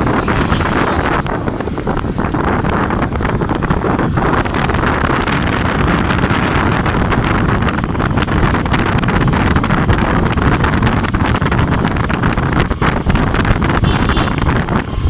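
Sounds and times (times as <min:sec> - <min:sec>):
vehicle running noise: 0:00.0 - 0:15.0
wind buffeting microphone: 0:00.0 - 0:15.0.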